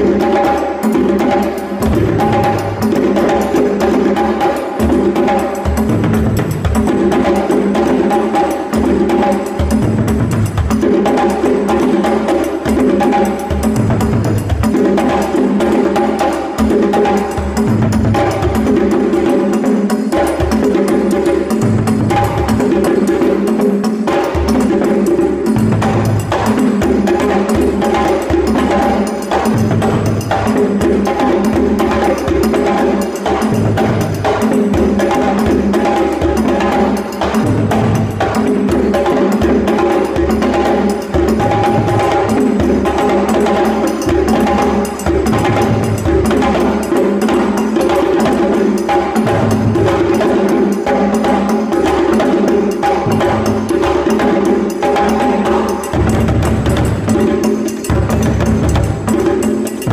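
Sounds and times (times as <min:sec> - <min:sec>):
hand drum rhythm: 0:00.0 - 0:59.9.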